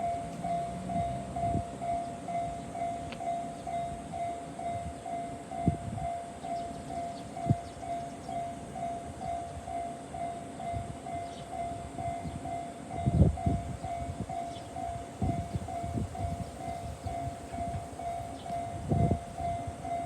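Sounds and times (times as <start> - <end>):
passing train rumble: 0.0 - 20.0.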